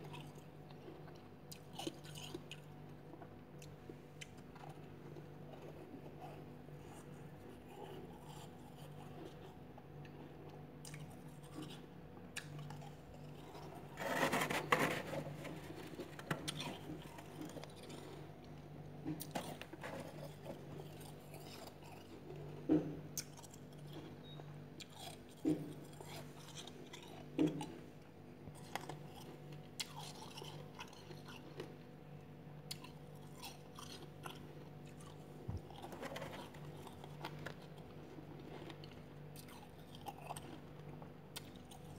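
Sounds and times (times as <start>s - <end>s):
frost being crunched and chewed: 0.0s - 41.9s
steady low hum: 0.0s - 41.9s.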